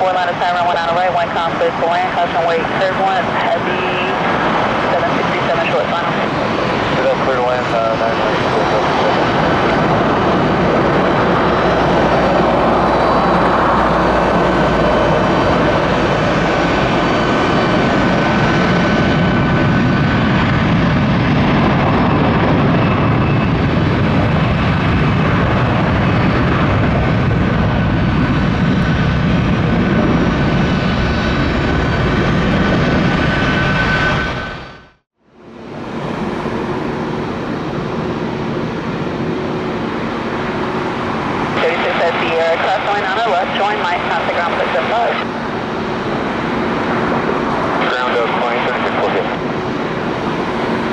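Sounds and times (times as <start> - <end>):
high engine whine: 0.0 - 50.9
jet engines roaring: 0.0 - 50.9.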